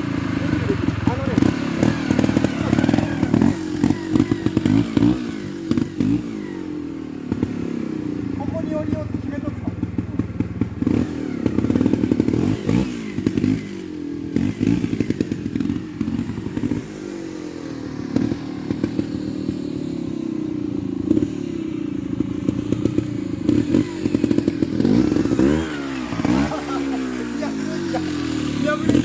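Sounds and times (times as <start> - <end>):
motorcycle engine revving: 0.0 - 29.0
motorcycle knocks and clatter: 0.4 - 20.0, 22.0 - 29.0.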